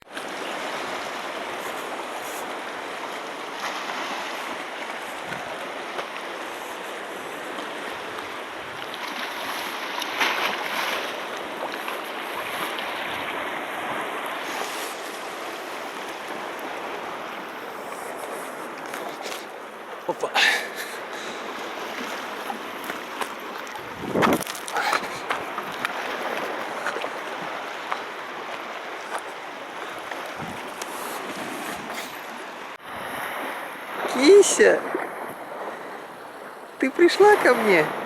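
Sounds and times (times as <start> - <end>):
sea surf washing: 0.1 - 38.0
wave breaking: 0.1 - 38.0.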